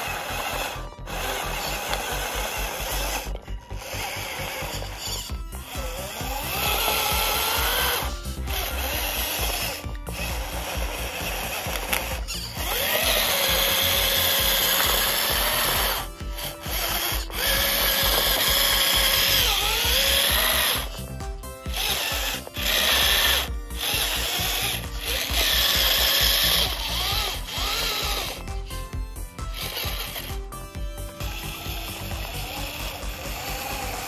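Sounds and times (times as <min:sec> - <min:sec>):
small electric motor whining: 0:00.0 - 0:34.0.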